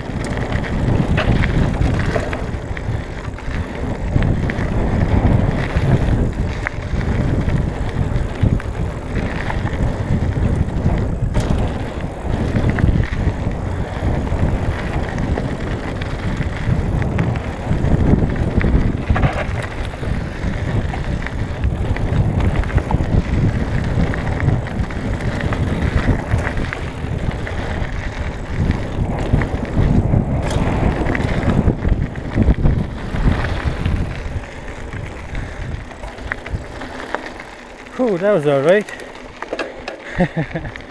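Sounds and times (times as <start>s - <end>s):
bike rattling over bumps: 0.0s - 40.9s
tyres rumbling on gravel: 0.0s - 40.9s.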